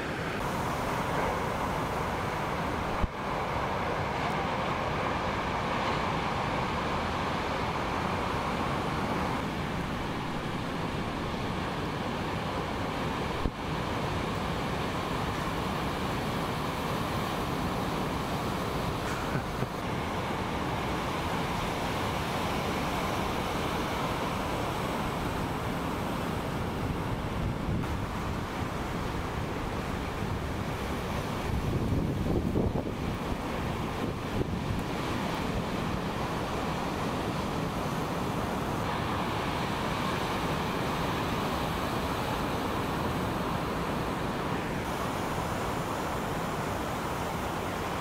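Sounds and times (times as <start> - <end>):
ocean surf rushing: 0.0 - 48.0.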